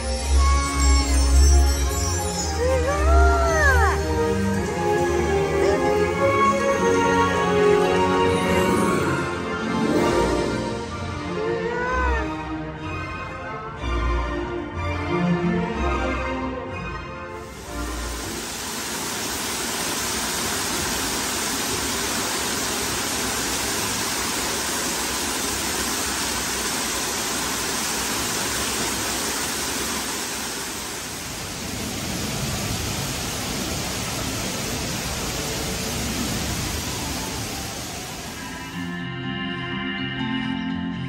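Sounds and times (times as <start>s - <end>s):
waterfall rushing: 0.0s - 12.3s, 17.4s - 38.9s.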